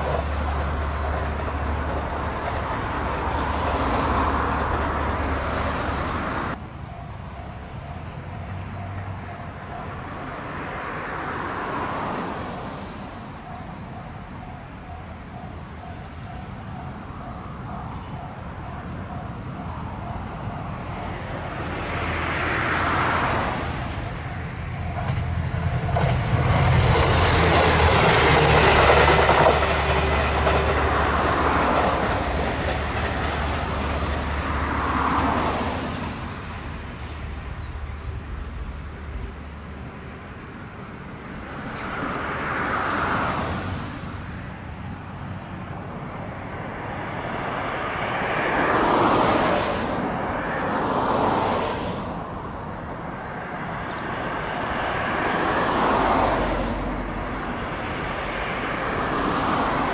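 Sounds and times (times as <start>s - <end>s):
passing train noise: 0.0s - 59.9s
train engine drone: 0.0s - 59.9s.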